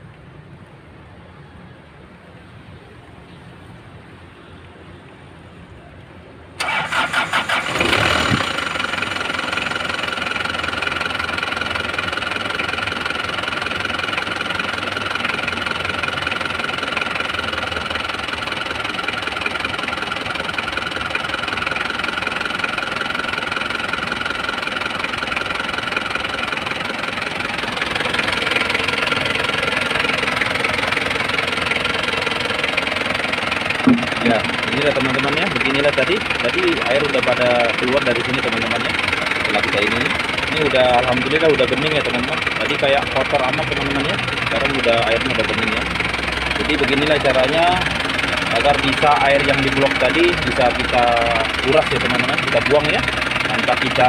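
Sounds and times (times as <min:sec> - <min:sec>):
car engine starting and idling: 0:06.5 - 0:54.0.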